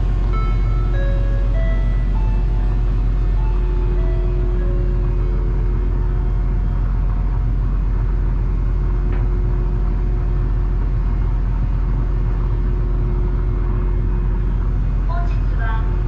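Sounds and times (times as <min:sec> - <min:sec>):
ship engines rumbling: 0:00.0 - 0:16.0.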